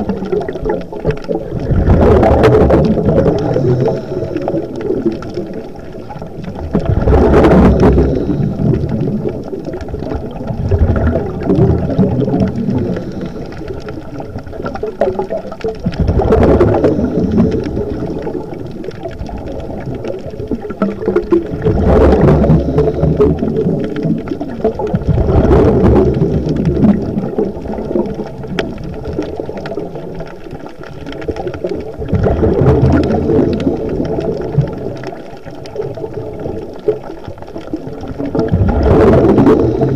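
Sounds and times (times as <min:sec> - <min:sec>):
exhaled bubbles rushing underwater: 0:00.0 - 0:39.9
low underwater rumble: 0:00.0 - 0:39.9.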